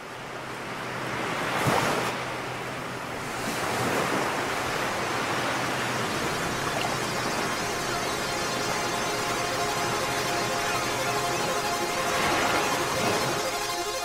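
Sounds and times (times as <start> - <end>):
ocean waves rushing: 1.0 - 14.0.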